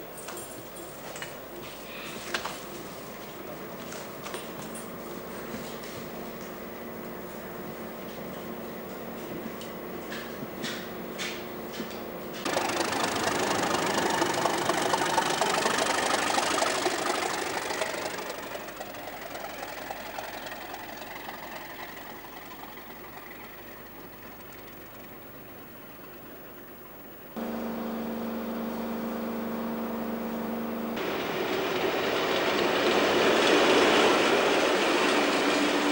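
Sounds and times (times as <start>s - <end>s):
idling diesel locomotive hum: 0.0s - 35.9s
diesel locomotive pulling away: 1.9s - 35.9s.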